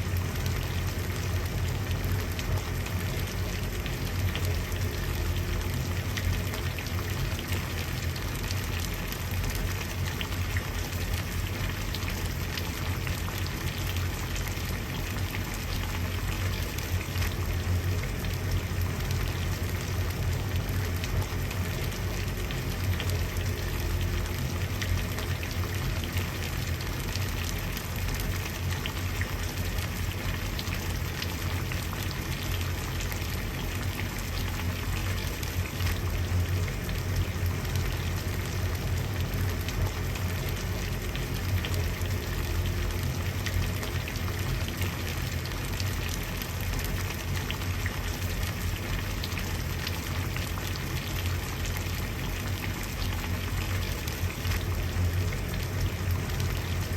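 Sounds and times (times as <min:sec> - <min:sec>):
water boiling and bubbling: 0:00.0 - 0:56.9.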